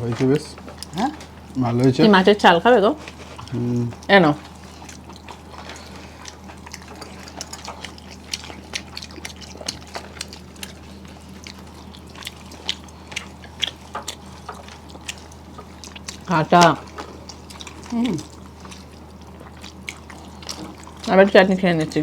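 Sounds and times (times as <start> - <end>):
steady low hum: 0.0 - 22.0
wet chewing: 0.0 - 22.0.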